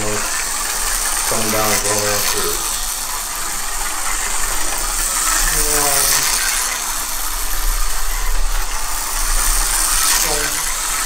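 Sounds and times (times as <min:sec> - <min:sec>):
slot car motors whirring: 0:00.0 - 0:11.0.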